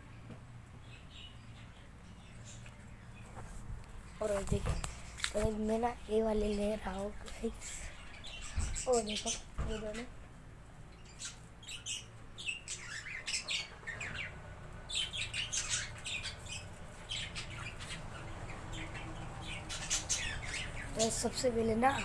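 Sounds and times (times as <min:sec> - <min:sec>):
parakeets chirping and squawking: 0:00.8 - 0:22.0.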